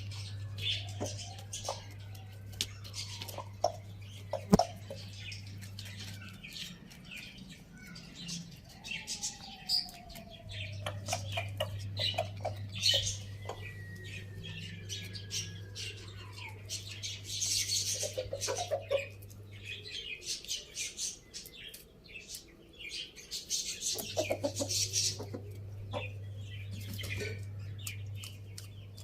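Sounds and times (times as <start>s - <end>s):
chickens chirping and calling: 0.0s - 29.0s
steady low hum: 0.0s - 29.0s.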